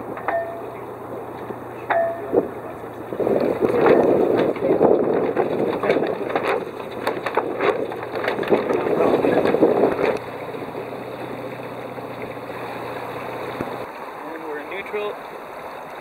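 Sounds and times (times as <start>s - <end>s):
wind buffeting microphone: 0.0s - 13.9s
water rushing along hull: 0.0s - 16.0s.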